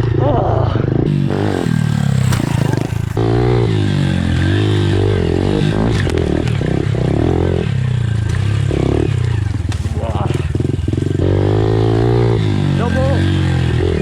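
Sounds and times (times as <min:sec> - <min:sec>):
pit bike engine revving: 0:00.8 - 0:14.0.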